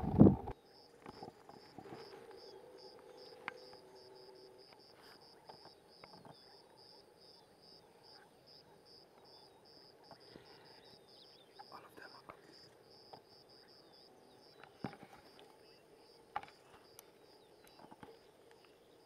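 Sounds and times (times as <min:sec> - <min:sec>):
insect chirping: 0:00.2 - 0:19.0.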